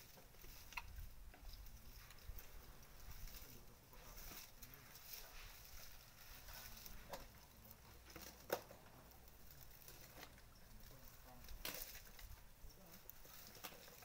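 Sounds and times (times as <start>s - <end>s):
twigs crackling: 0.0s - 14.0s.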